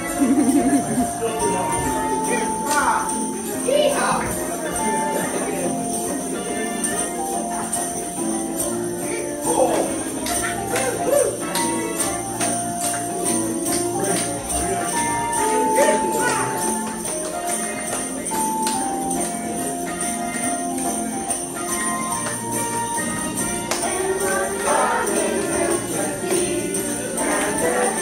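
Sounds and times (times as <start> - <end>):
christmas song melody of held notes: 0.0 - 28.0
jingle bells shaken: 0.0 - 28.0.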